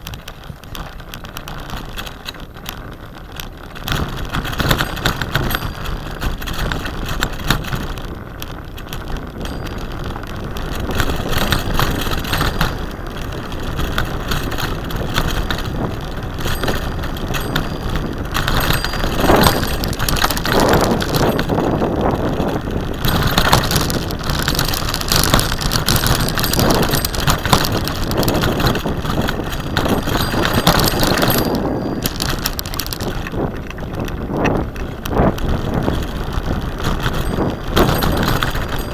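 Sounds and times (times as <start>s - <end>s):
bicycle frame rattling: 0.0s - 38.9s
bicycle tyre noise on dirt: 0.0s - 38.9s
wind on microphone: 0.0s - 38.9s.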